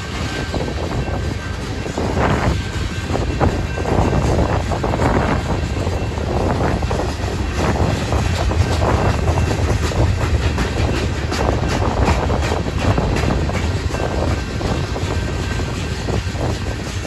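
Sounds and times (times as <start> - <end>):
freight train wheels clicking: 0.0 - 17.0
wind buffeting microphone: 0.0 - 17.0.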